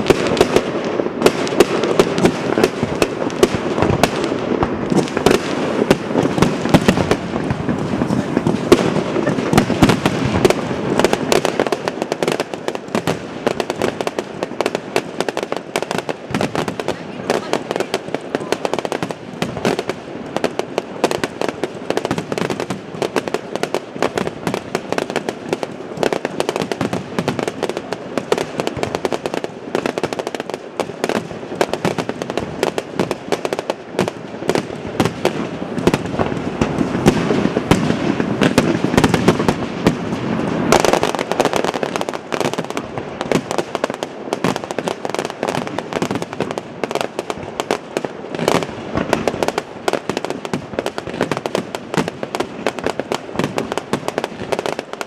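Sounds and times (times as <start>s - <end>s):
fireworks bangs and crackling bursts: 0.0s - 55.0s.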